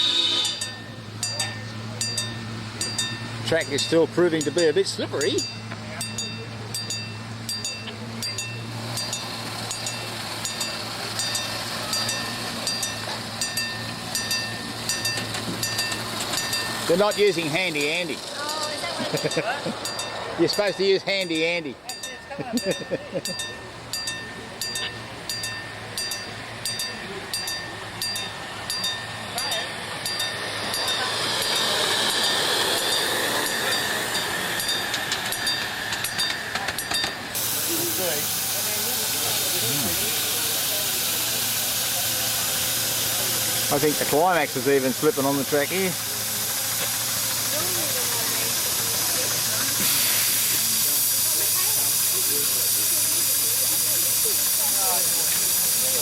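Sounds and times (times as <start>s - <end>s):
train wheels clicking over rail joints: 0.0s - 56.0s.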